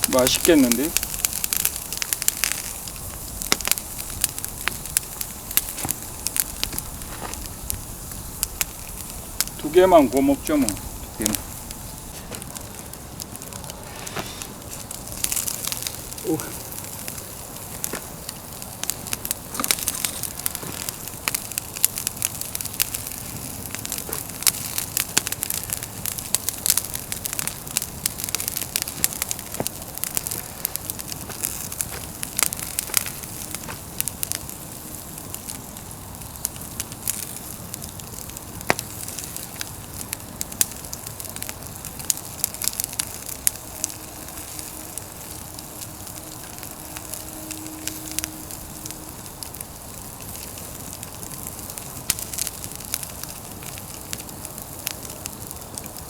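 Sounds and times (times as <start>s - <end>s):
hiss of flames: 0.0s - 56.0s
log fire crackling and popping: 0.0s - 56.0s.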